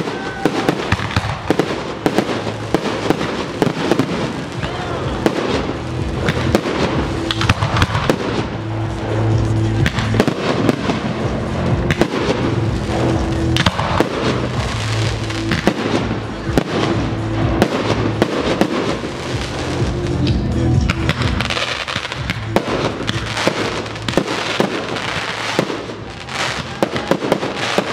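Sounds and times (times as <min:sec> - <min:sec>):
fireworks bangs and crackling: 0:00.0 - 0:27.9.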